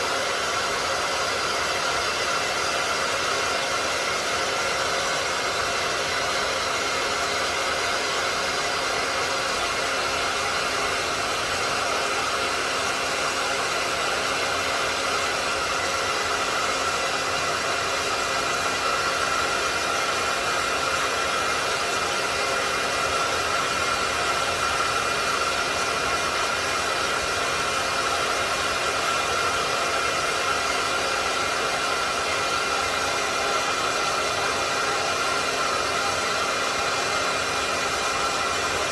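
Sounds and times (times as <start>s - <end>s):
faint steady whine: 0.0s - 38.9s
hair dryer blowing: 0.0s - 38.9s.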